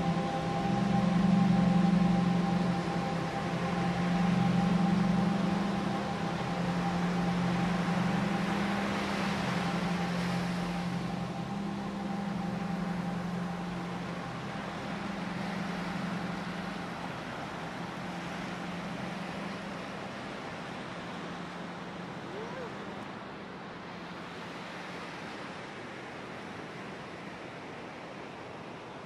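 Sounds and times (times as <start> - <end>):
low electronic drone with hiss: 0.0 - 29.0.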